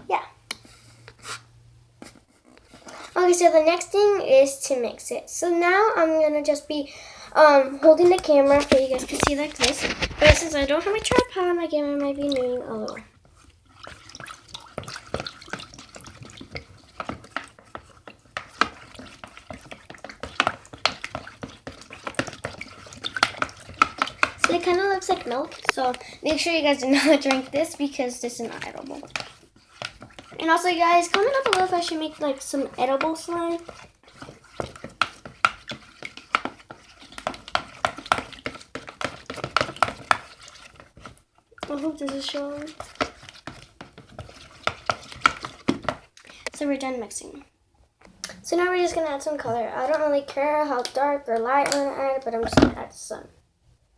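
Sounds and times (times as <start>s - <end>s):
wet stirring in a bowl: 0.5s - 53.0s.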